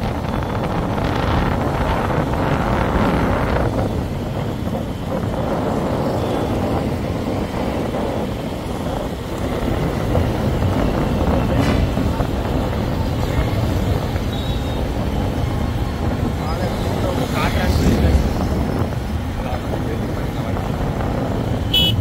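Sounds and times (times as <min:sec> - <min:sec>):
traffic and road noise: 0:00.0 - 0:22.0
wind on microphone: 0:00.0 - 0:22.0.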